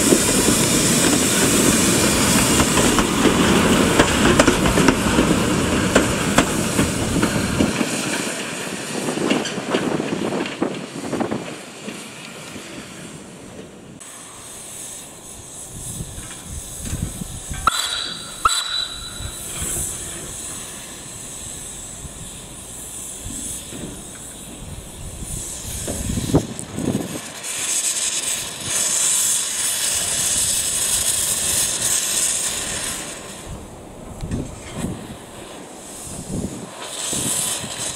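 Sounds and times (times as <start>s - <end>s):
steam hissing: 0.0s - 37.9s.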